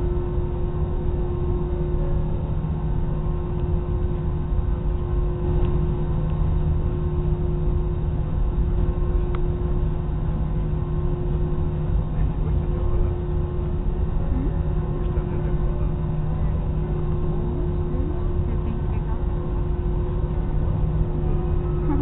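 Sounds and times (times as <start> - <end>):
airliner engines droning in cabin: 0.0 - 22.0.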